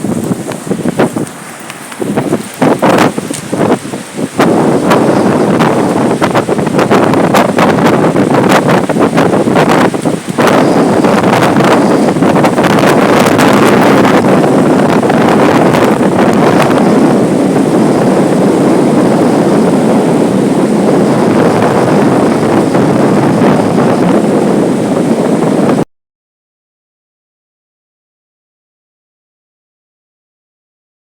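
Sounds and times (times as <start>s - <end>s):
storm wind on microphone: 0.0s - 25.9s.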